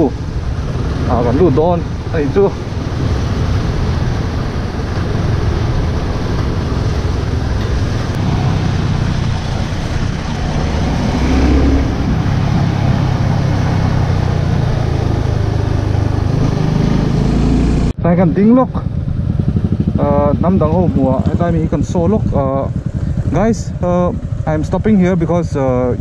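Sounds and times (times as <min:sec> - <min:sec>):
motorcycle engine running: 0:00.0 - 0:26.0
wind rushing over microphone: 0:00.0 - 0:26.0.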